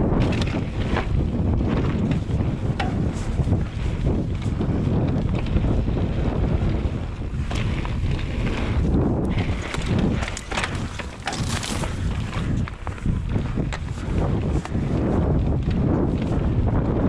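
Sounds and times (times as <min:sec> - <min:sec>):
bike clattering over bumps: 0:00.0 - 0:17.0
bike tyres crunching on gravel: 0:00.0 - 0:17.0
wind buffeting microphone: 0:00.0 - 0:17.0.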